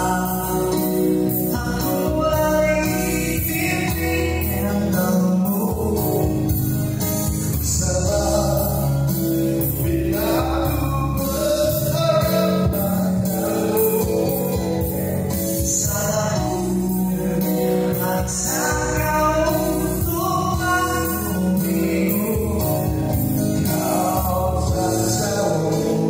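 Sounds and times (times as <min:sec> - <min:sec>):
electronic keyboard with beat: 0:00.0 - 0:26.0
man singing into microphone: 0:00.0 - 0:26.0.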